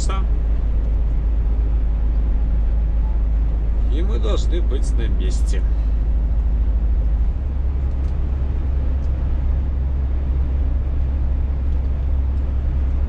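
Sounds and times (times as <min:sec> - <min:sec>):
road and tyre noise: 0:00.0 - 0:13.0
truck engine drone: 0:00.0 - 0:13.0.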